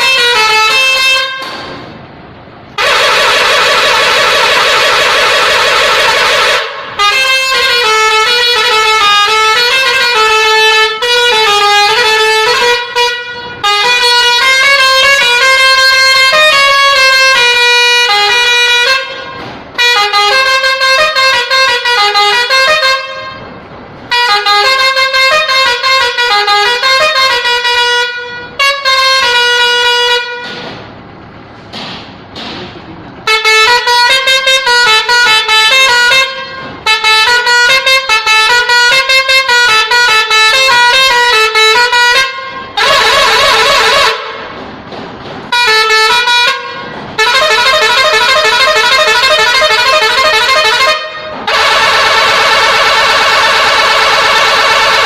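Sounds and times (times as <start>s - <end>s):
musical truck horn playing a tune: 0.0s - 30.6s, 33.2s - 55.0s.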